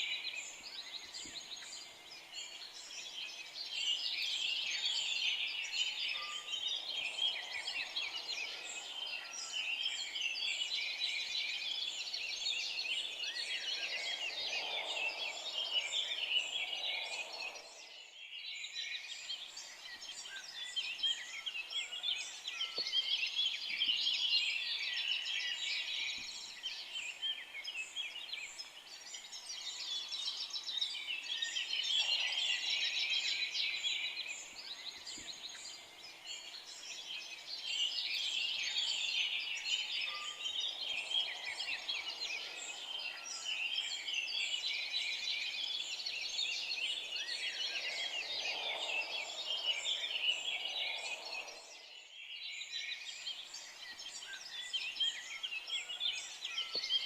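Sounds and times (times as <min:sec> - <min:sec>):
chorus of songbirds singing: 0:00.0 - 0:57.0.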